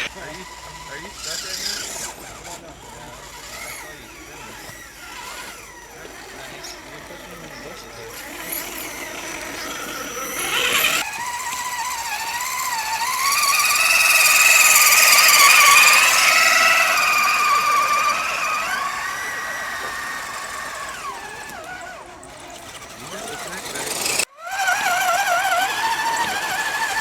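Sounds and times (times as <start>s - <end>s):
electric motor and gearbox whining: 0.0s - 27.0s.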